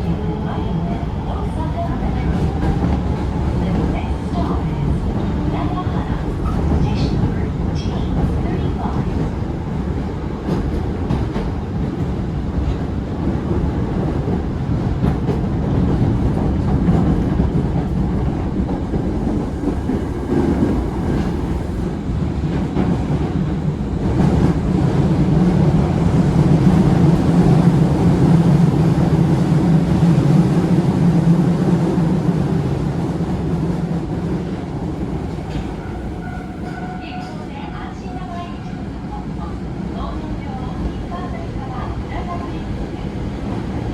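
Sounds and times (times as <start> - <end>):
subway train wheels rumbling on rail: 0.0 - 43.9.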